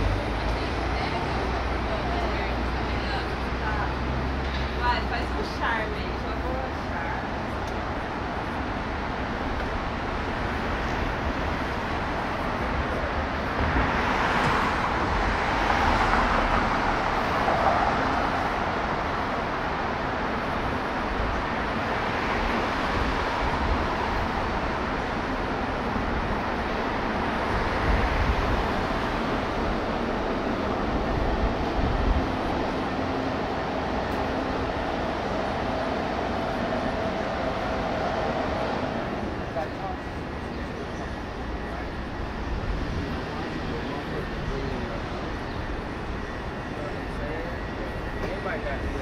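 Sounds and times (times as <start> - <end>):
city street traffic: 0.0 - 49.0.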